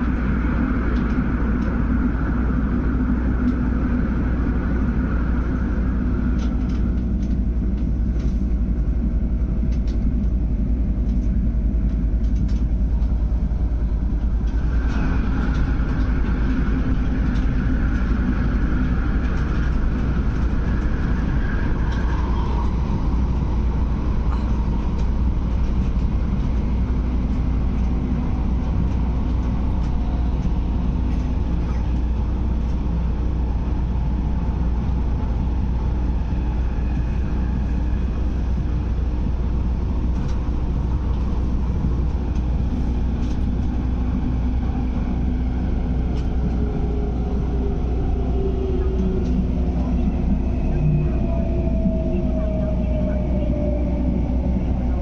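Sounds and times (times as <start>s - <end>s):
high whine: 0.0s - 55.0s
train cabin rumble: 0.0s - 55.0s.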